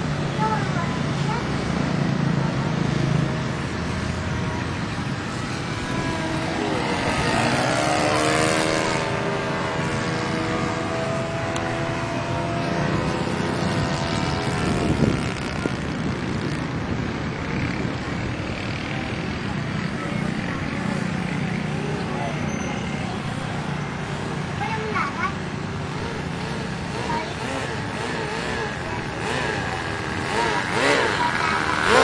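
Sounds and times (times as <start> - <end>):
model plane engine and propeller: 0.0 - 24.3, 25.6 - 32.0.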